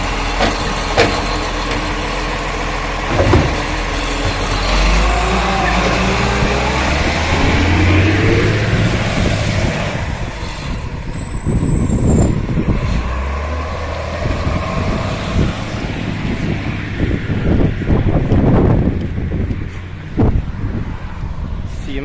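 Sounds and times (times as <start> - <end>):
garbage truck engine humming: 0.0 - 20.4.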